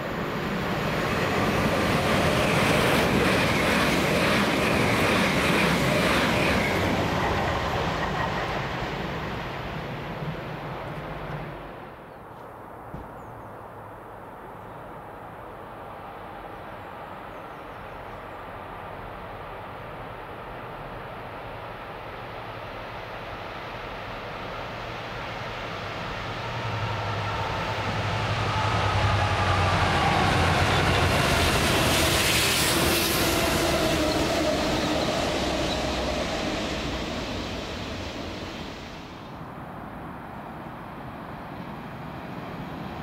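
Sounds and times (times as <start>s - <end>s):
train passing at speed: 0.0s - 43.0s.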